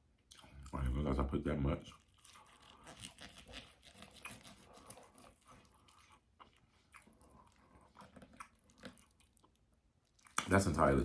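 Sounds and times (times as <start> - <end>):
person chewing: 0.2 - 0.8, 1.8 - 10.6.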